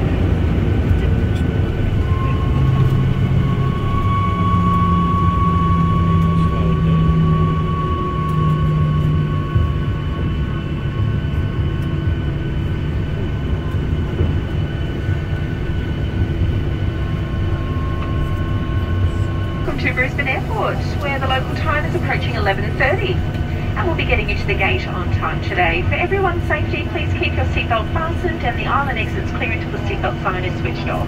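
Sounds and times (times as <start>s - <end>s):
jet engine cabin rumble: 0.0s - 31.0s
high whining tones: 1.4s - 31.0s.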